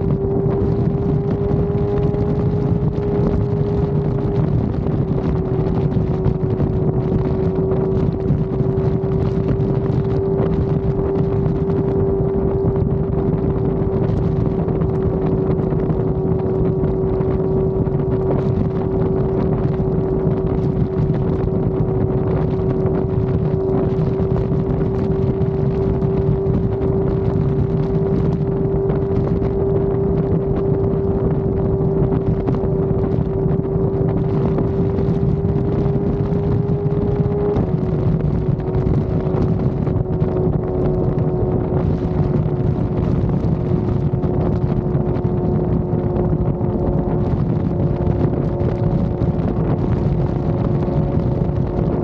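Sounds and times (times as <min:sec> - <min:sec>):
motorcycle engine cruising: 0:00.0 - 0:52.0
wind and road rush: 0:00.0 - 0:52.0.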